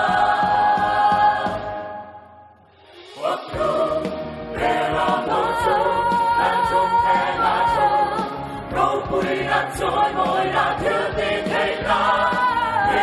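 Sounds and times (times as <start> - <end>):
mixed choir singing: 0.0 - 2.4, 3.0 - 13.0.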